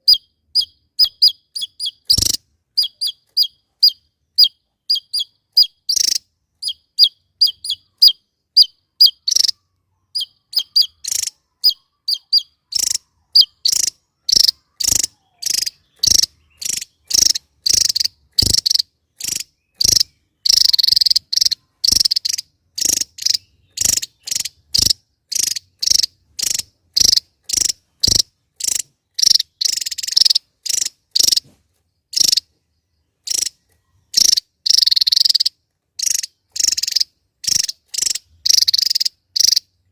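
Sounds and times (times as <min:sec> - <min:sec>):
bird calling sharp notes: 0:00.0 - 0:32.5, 0:33.2 - 0:39.8.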